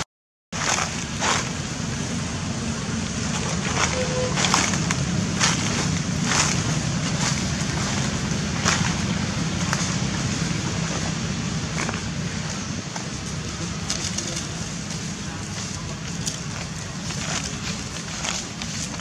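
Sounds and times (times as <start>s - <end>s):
low rumble: 0.6s - 19.0s
footsteps crunching on dry leaves: 3.3s - 19.0s.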